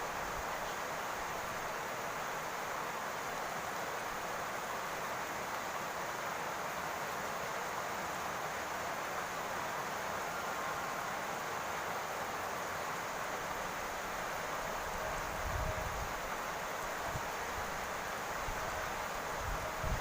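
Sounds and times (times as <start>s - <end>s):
rain on a roof: 0.0s - 20.0s.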